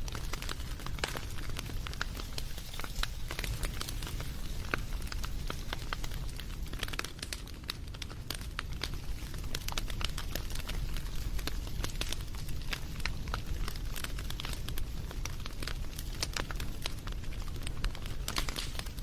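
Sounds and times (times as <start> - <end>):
low rumble of flames: 0.0 - 19.0
wood fire pops and crackles: 0.0 - 19.0.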